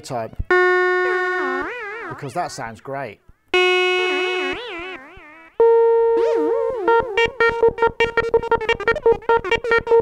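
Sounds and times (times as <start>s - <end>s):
synth notes with warbling echo: 0.5s - 2.6s, 3.6s - 10.0s.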